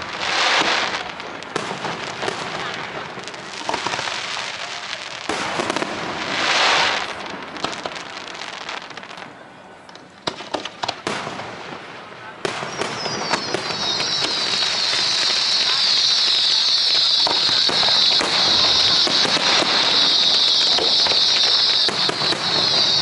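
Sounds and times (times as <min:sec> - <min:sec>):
fireworks bangs: 0:00.0 - 0:23.0
fireworks crackling and popping: 0:00.0 - 0:23.0.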